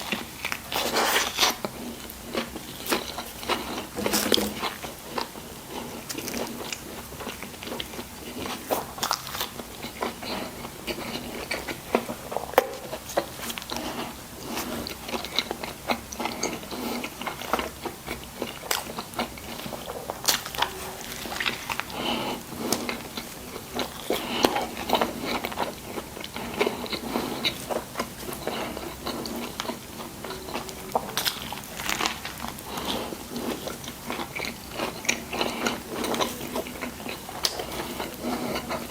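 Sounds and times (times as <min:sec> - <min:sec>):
crunching and crackling food: 0:00.0 - 0:38.9
person chewing food: 0:00.0 - 0:38.9.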